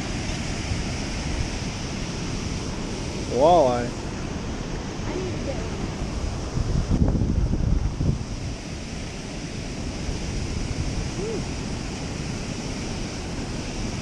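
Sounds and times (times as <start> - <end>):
water rushing through spillway: 0.0 - 14.0
wind buffeting microphone: 0.0 - 14.0.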